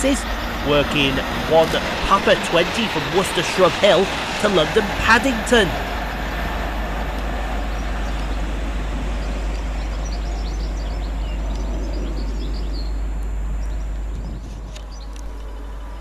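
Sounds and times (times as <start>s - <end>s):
train passing at speed: 0.0s - 13.9s
birds chirping faintly: 0.0s - 16.0s.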